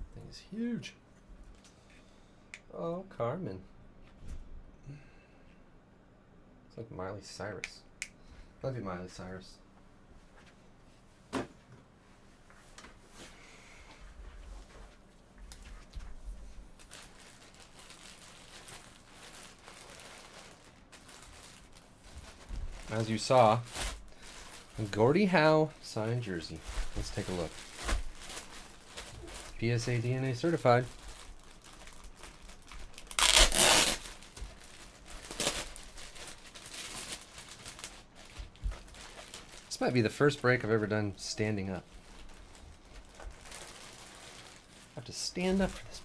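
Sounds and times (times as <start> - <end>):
faint rustling and handling: 9.2 - 46.0.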